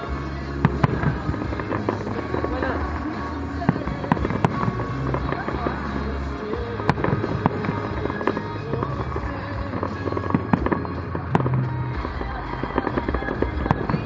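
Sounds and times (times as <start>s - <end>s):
distant firework bangs: 0.0s - 14.0s
music from a radio: 0.0s - 14.0s.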